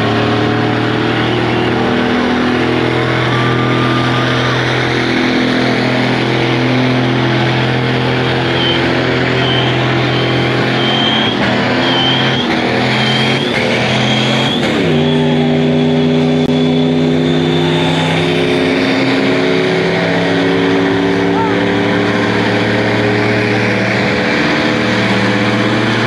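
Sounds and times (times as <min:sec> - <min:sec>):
car engine at high revs: 0:00.0 - 0:26.0.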